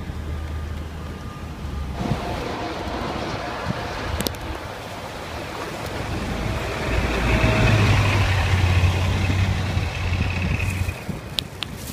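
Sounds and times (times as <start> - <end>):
bus engine drone: 0.0 - 11.9
road hiss through slush: 1.9 - 11.9.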